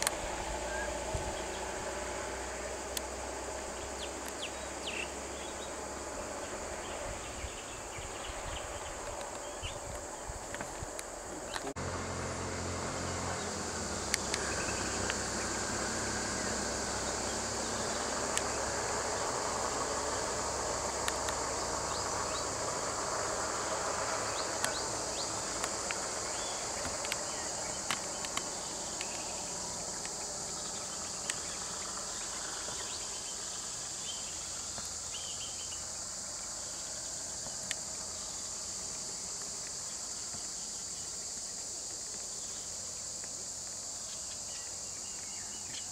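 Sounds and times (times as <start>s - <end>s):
insects chorus: 0.0s - 45.9s
vehicle engine hum: 0.0s - 45.9s.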